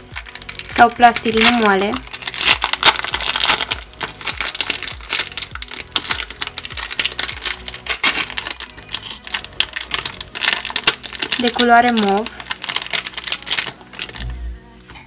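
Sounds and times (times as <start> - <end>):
plastic wrapper crinkling: 0.0 - 14.5.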